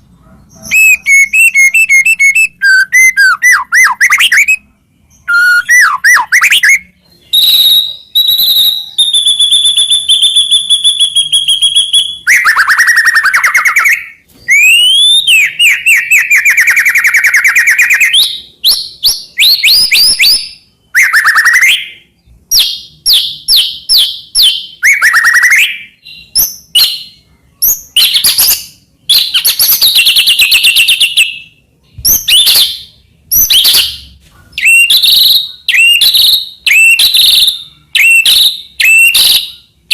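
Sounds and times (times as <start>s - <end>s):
bird singing loudly: 0.5s - 39.9s.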